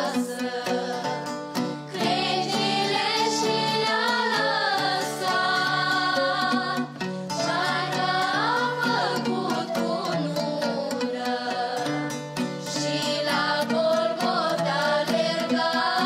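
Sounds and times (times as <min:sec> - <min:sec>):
violin: 0:00.0 - 0:16.0
women's choir singing: 0:00.0 - 0:16.0.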